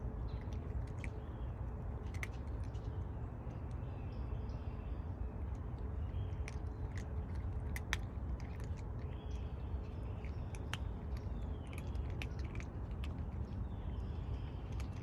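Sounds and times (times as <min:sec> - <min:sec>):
cats crunching dry food: 0:00.0 - 0:04.4, 0:05.1 - 0:15.0.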